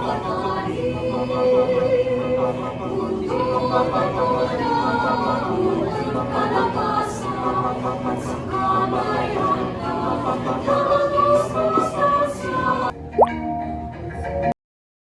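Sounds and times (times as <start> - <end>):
choir singing sustained notes: 0.0 - 13.2.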